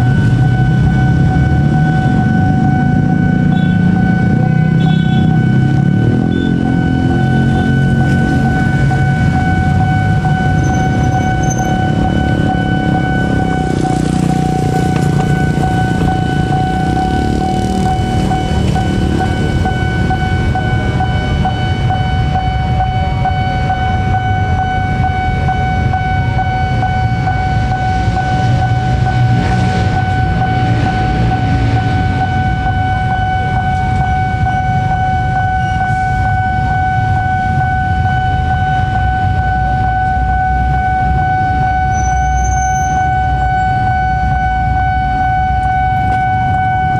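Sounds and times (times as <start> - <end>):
diesel train approaching: 0.0 - 46.9
level crossing alarm tone: 0.0 - 46.9
motorbike engines rumbling: 0.0 - 46.9.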